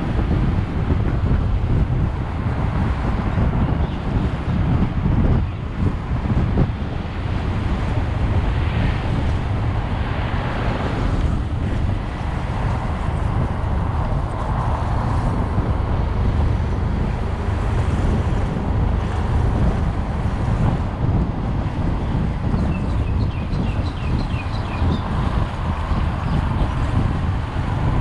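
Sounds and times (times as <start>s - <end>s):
motorcycle engine and road noise: 0.0s - 28.0s
wind rushing over microphone: 0.0s - 28.0s.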